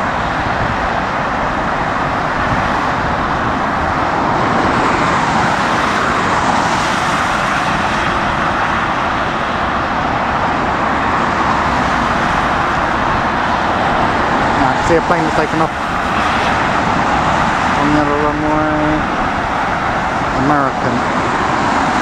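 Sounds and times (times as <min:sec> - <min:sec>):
jet engines roaring: 0:00.0 - 0:22.0
wind on microphone: 0:00.0 - 0:22.0.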